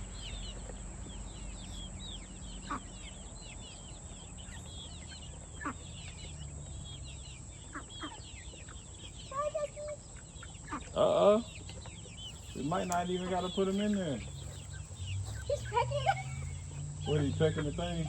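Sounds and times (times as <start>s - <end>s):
chickens chirping: 0.0s - 18.0s
chicken clucks: 0.5s - 18.0s.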